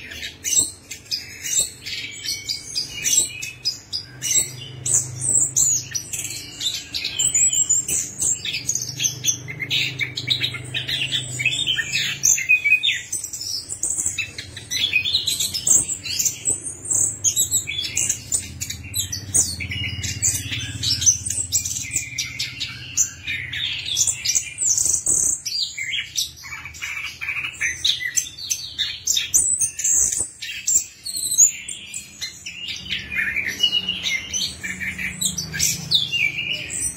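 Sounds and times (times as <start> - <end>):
thrush singing chirps and trills: 0.0 - 36.9.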